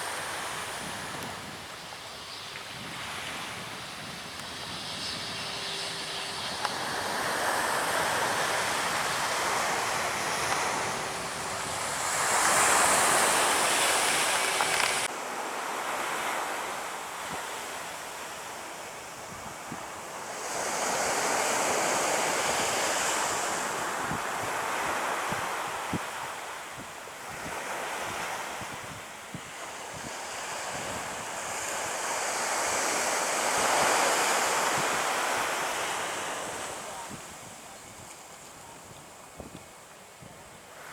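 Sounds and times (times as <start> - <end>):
wind on microphone: 0.0 - 15.1, 19.1 - 40.9
surf breaking on a beach: 0.0 - 40.9.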